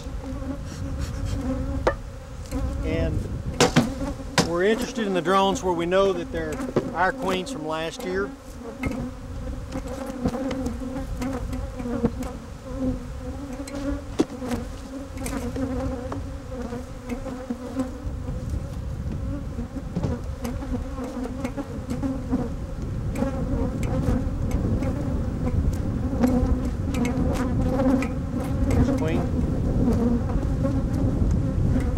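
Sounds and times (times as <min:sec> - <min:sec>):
honeybees buzzing: 0:00.0 - 0:31.9.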